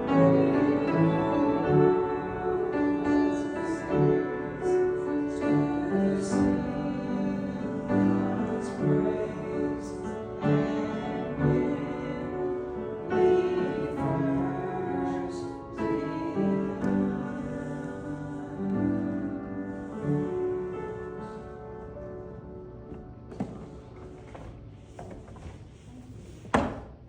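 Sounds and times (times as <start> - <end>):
slow piano piece: 0.0 - 26.4.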